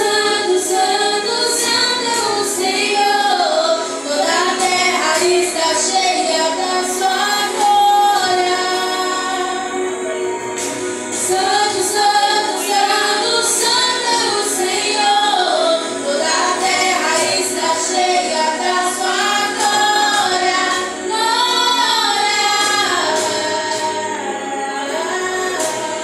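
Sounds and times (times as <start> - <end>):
women singing a worship song: 0.0 - 26.0.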